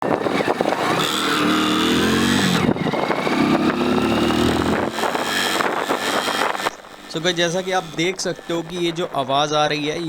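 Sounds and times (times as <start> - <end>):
motorcycle engine revving: 0.0 - 8.7.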